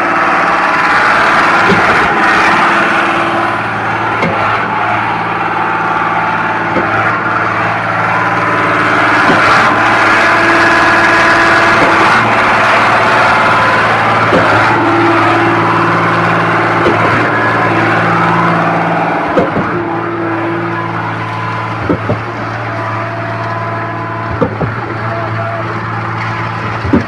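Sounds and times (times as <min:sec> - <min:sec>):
concrete pump engine running: 0:00.0 - 0:27.0.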